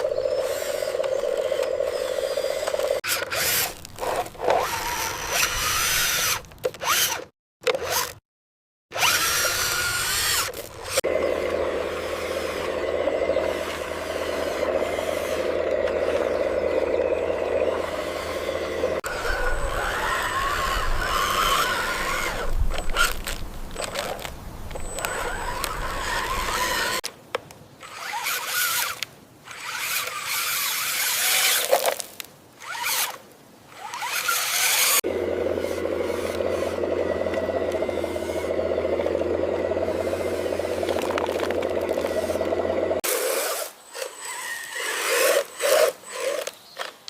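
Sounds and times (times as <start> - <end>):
small electric motors whirring: 0.0 - 8.2, 8.9 - 27.1, 27.8 - 32.0, 32.6 - 47.0.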